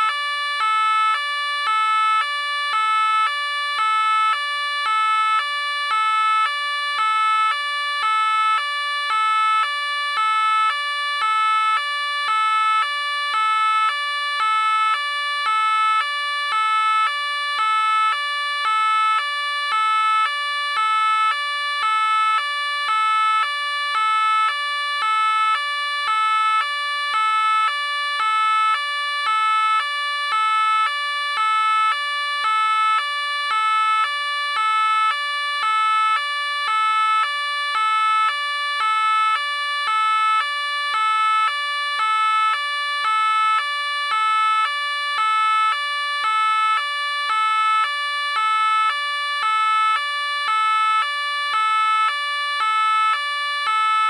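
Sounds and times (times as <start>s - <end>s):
police car two-tone siren: 0.0s - 54.0s.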